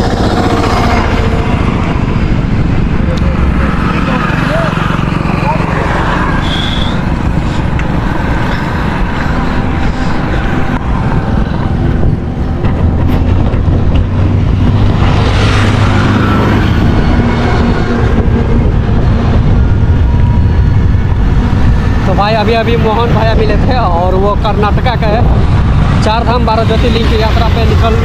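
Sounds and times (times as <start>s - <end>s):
vehicle sweeping past: 0.0s - 22.6s
low engine hum: 0.0s - 28.0s
passing road traffic: 0.0s - 28.0s
wind rushing over microphone: 0.0s - 28.0s.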